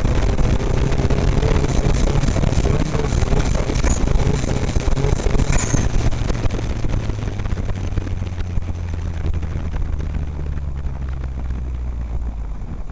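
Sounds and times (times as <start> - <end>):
knocks and rattles over rough ground: 0.0 - 12.9
vehicle engine drone: 0.0 - 12.9.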